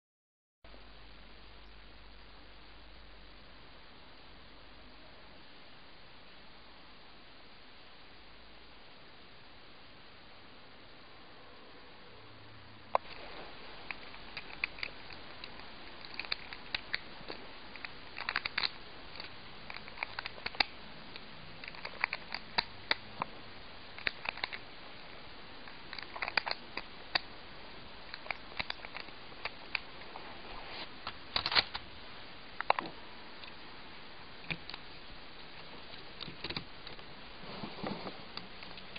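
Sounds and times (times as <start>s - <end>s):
steady hiss: 0.7s - 38.9s.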